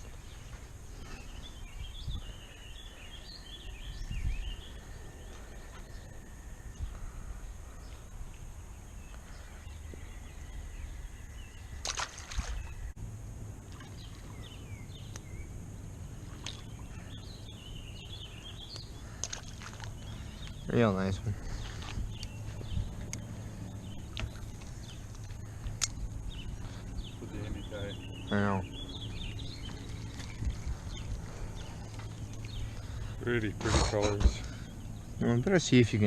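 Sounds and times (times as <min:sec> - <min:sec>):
low steady rumble: 0:00.0 - 0:36.0
songbirds chirping: 0:00.0 - 0:36.0.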